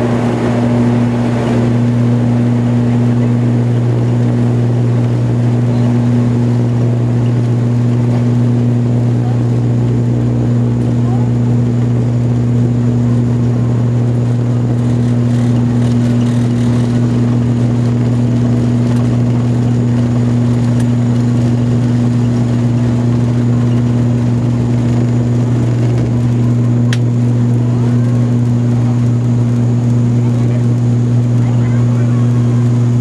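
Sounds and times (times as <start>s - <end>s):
turboprop plane droning: 0.0s - 33.0s.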